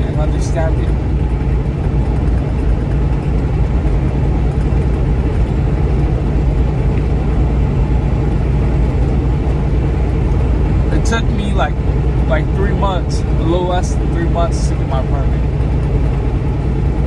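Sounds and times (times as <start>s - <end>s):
vehicle cabin engine and road noise: 0.0s - 17.0s.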